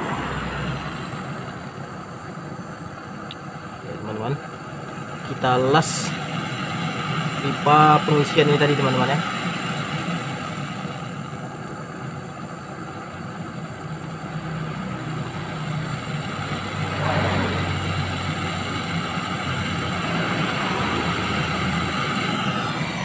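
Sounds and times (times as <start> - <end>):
gas torch flame burning: 0.0 - 23.0.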